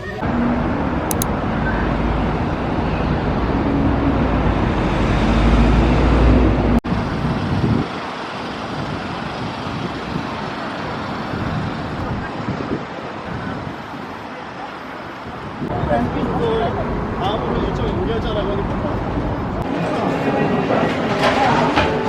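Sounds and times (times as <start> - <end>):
passing traffic: 0.0 - 22.0.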